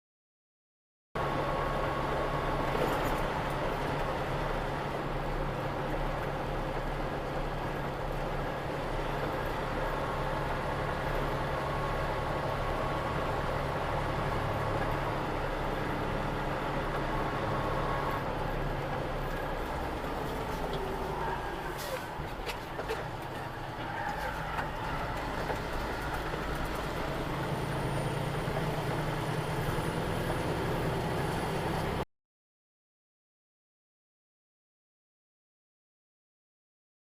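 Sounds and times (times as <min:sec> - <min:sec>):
road noise: 0:01.2 - 0:32.0
vehicle engine hum: 0:01.2 - 0:32.0.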